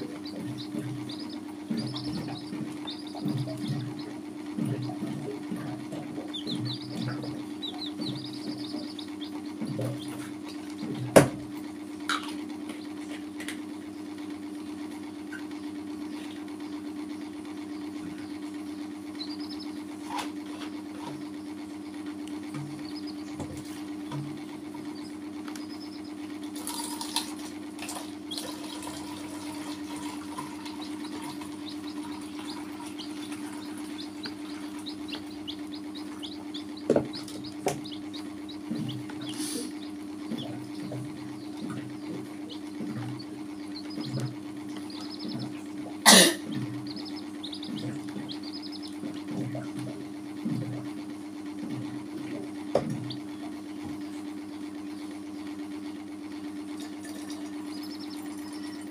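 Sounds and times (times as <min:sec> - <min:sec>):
chicks peeping: 0:00.0 - 0:56.6, 0:57.2 - 0:58.9
steady low hum: 0:00.0 - 0:58.9.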